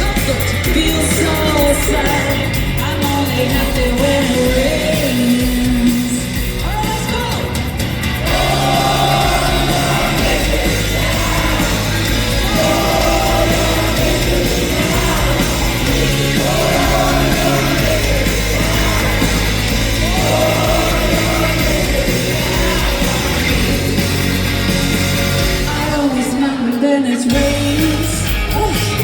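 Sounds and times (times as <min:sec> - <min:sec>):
bass: 0:00.0 - 0:26.7, 0:27.3 - 0:29.0
drums: 0:00.0 - 0:29.0
live rock band playing: 0:00.0 - 0:29.0.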